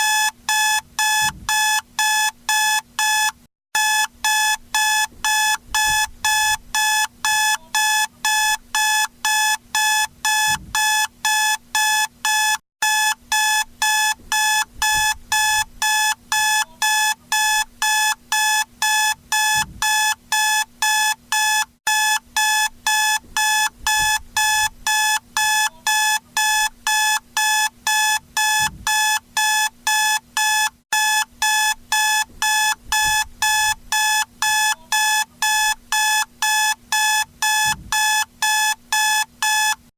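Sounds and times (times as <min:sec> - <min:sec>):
alarm clock beeping: 0:00.0 - 0:39.8.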